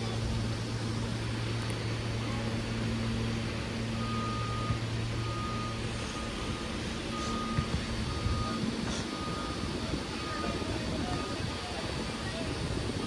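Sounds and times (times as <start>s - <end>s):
subway train humming: 0.0s - 13.0s.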